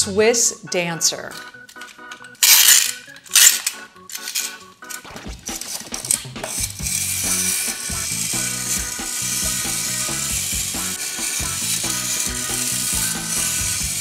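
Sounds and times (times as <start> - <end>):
wind-up toy gears whirring: 1.8 - 14.0.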